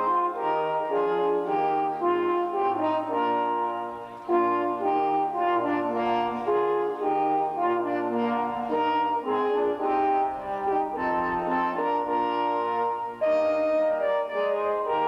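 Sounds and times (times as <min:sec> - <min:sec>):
brass horns playing chords: 0:00.0 - 0:15.0.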